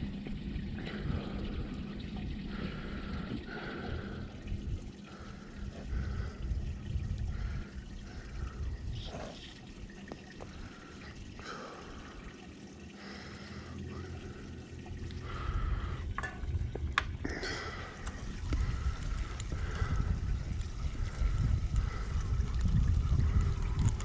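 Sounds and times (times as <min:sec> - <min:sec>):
low rumble: 0:00.0 - 0:12.4, 0:13.0 - 0:24.0
water trickling and lapping: 0:00.0 - 0:24.0.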